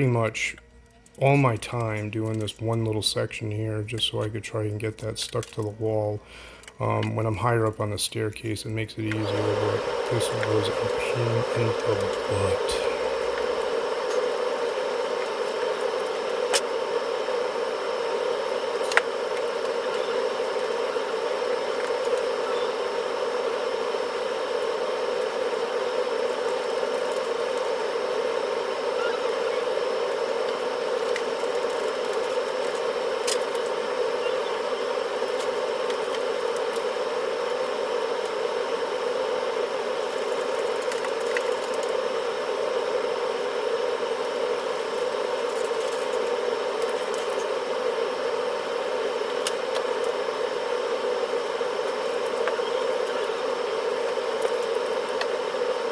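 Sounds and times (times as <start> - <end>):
air conditioner humming: 0.0 - 55.9.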